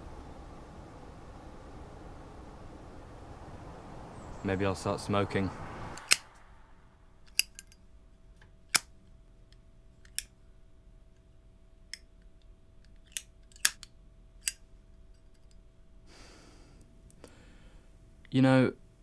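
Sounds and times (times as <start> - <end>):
faint steady hum: 0.0 - 19.0
soft hiss: 0.0 - 19.0.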